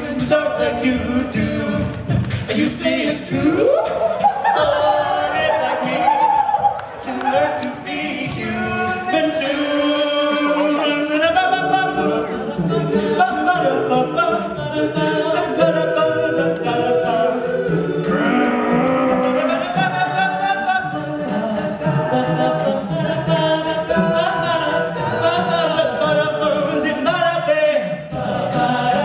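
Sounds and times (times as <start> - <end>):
male a cappella group singing: 0.0 - 29.0.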